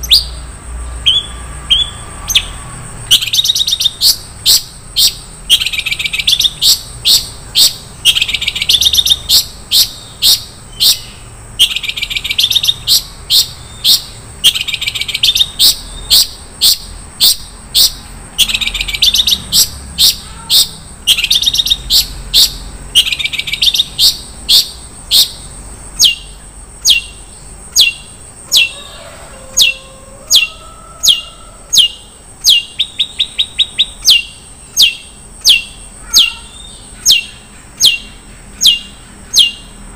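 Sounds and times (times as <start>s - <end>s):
bird singing trilled notes: 0.0s - 28.8s, 29.5s - 39.9s.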